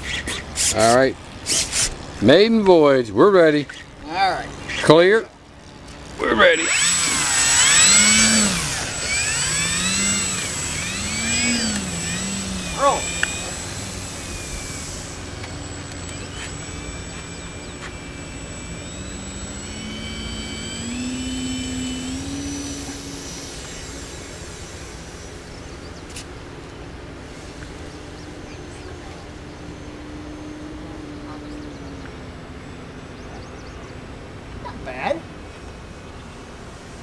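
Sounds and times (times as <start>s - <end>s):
model airplane engine at full throttle: 0.0s - 33.9s.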